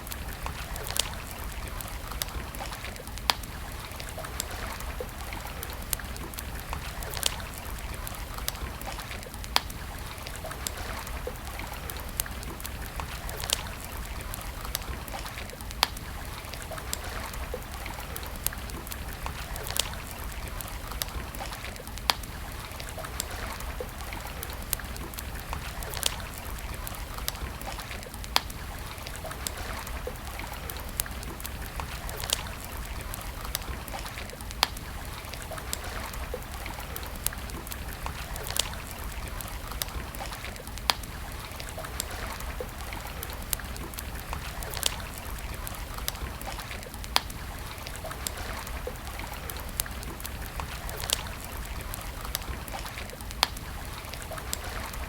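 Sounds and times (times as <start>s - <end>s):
campfire crackling and popping: 0.0s - 55.0s
running water: 0.0s - 55.0s.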